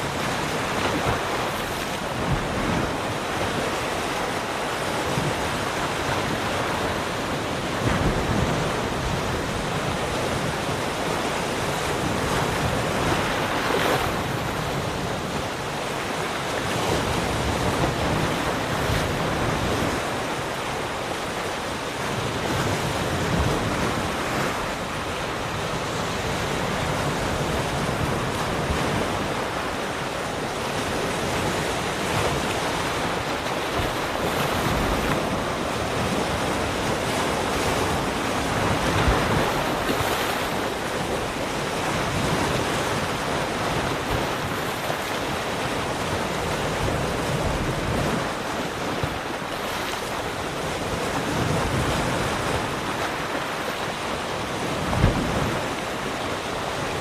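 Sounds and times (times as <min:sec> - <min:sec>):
ocean waves breaking on shore: 0:00.0 - 0:57.0
wind: 0:00.0 - 0:57.0.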